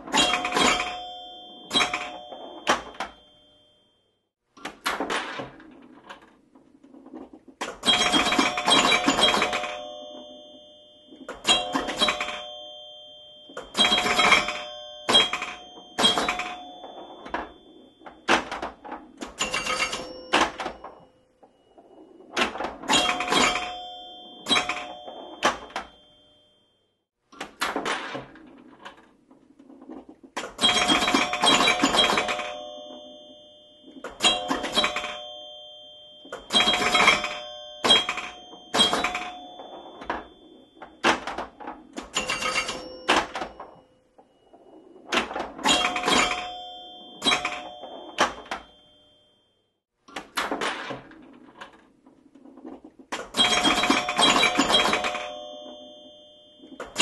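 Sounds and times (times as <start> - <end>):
pinball mechanical clacks: 0.0 - 3.5, 4.6 - 26.5, 27.4 - 49.2, 50.1 - 57.0
bell-like chimes: 0.2 - 4.2, 7.9 - 26.8, 30.6 - 49.8, 53.4 - 57.0.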